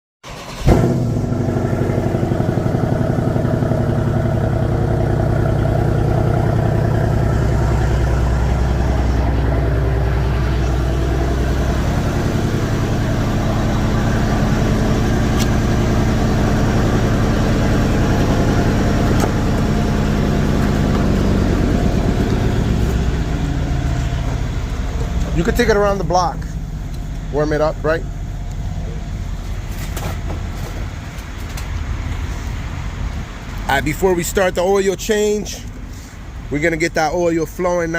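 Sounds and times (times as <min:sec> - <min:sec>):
car engine idling: 0:00.2 - 0:37.9.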